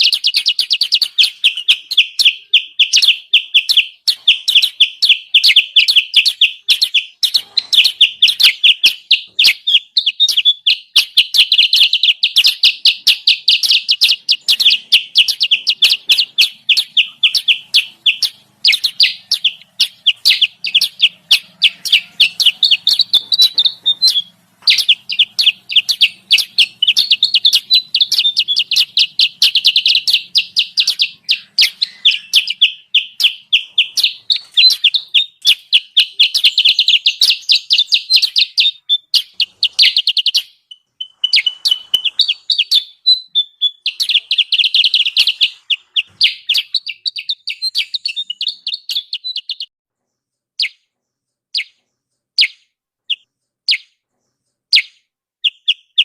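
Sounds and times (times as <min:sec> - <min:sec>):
high bird chirps: 0:00.0 - 0:56.0.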